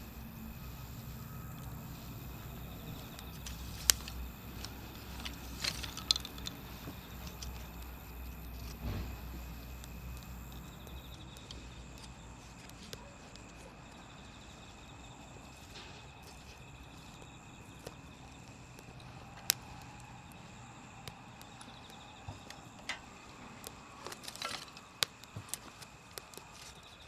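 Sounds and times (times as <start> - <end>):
campfire crackling and popping: 0.0 - 14.4, 15.0 - 27.0.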